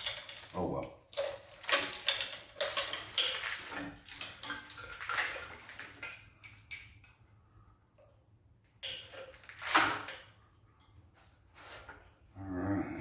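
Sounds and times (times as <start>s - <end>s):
hard parts clinking and rattling: 0.0s - 12.2s.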